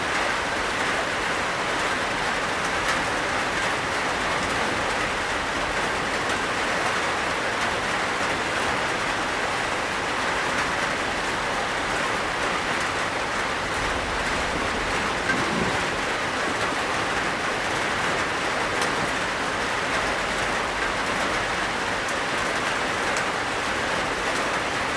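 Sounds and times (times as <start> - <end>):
rain on a tin roof: 0.0 - 24.9.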